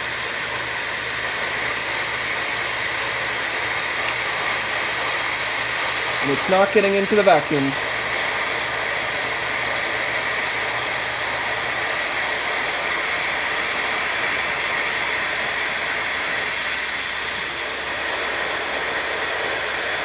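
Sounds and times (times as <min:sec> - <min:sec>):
vacuum cleaner rushing hiss: 0:00.0 - 0:20.0.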